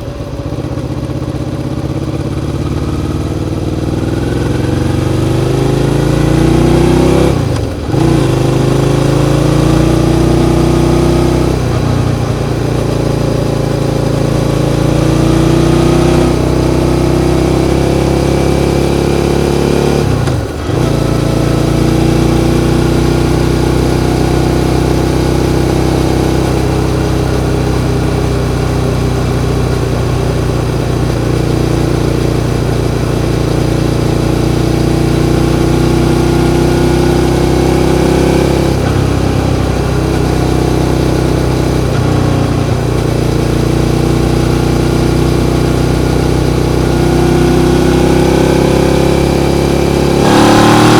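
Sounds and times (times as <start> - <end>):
motorcycle engine under throttle: 0.0 - 50.9.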